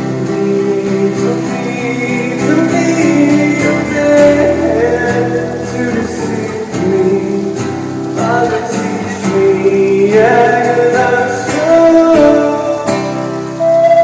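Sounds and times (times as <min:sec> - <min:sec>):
acoustic guitar: 0:00.0 - 0:14.0
man singing: 0:00.0 - 0:14.0.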